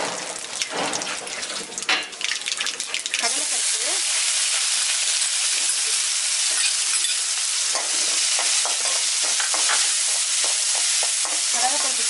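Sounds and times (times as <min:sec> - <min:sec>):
oil sizzling in a wok: 0:00.0 - 0:12.0.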